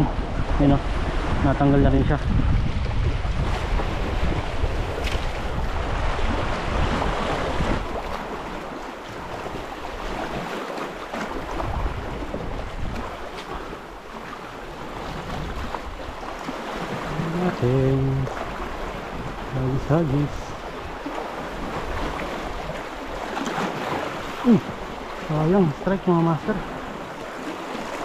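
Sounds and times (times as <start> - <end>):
waves lapping over rocks: 0.0 - 28.0
wind buffeting microphone: 0.0 - 28.0.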